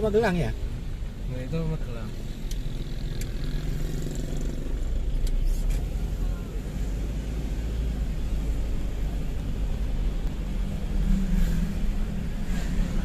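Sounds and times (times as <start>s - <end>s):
road and engine rumble: 0.0s - 13.0s
low engine hum: 2.1s - 13.0s.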